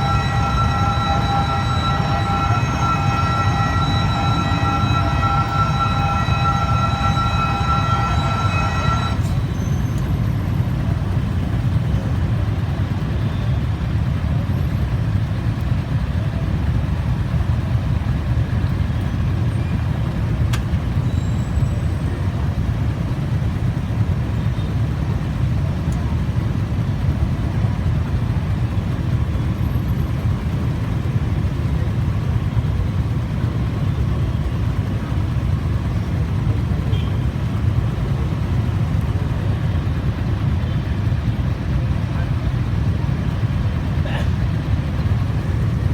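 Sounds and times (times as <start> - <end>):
vehicle rumble: 0.0 - 45.9.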